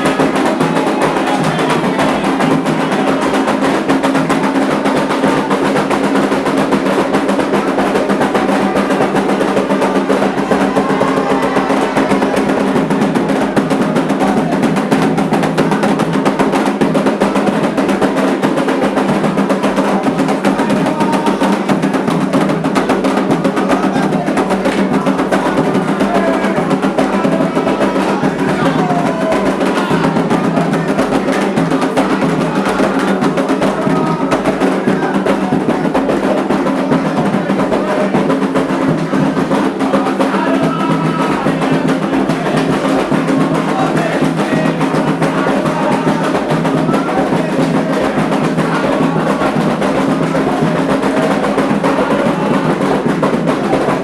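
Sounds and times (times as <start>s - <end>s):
hand drums drumming: 0.0s - 54.0s.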